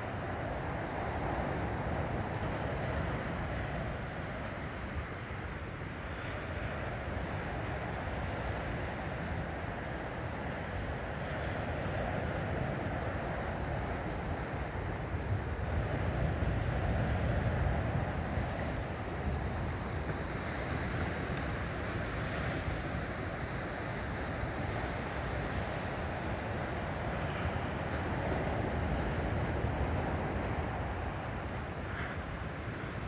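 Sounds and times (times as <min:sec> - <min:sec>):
ocean surf washing in: 0:00.0 - 0:33.0.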